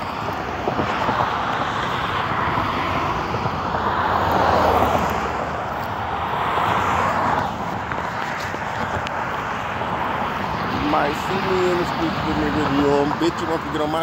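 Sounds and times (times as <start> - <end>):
car engines and tyre noise: 0.0 - 14.0.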